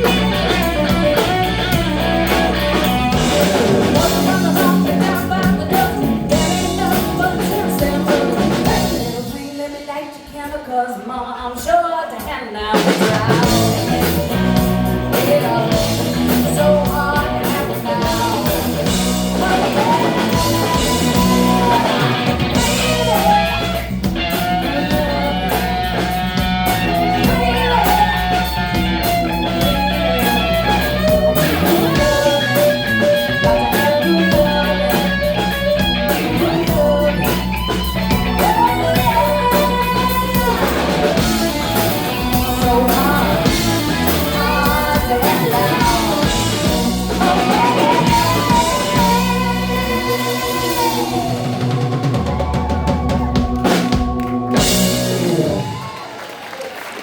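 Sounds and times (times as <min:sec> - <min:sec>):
bass guitar: 0:00.0 - 0:09.4, 0:12.8 - 0:56.2
electric guitar: 0:00.0 - 0:09.8, 0:12.7 - 0:57.0
drums: 0:00.0 - 0:57.0.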